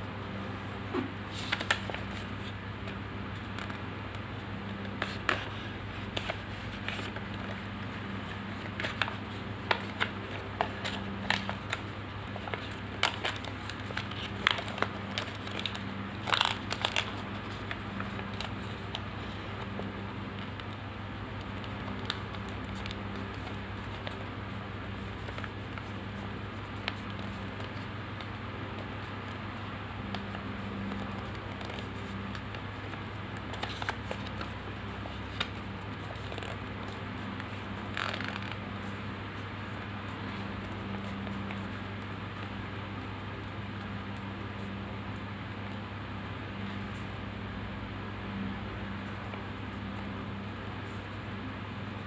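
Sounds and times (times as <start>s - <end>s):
steady low hum: 0.0s - 52.0s
paper being folded: 1.3s - 3.8s, 4.7s - 44.7s.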